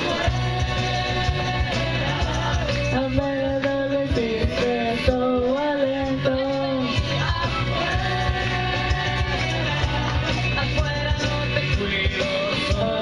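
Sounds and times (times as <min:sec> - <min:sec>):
backing music: 0:00.0 - 0:13.0.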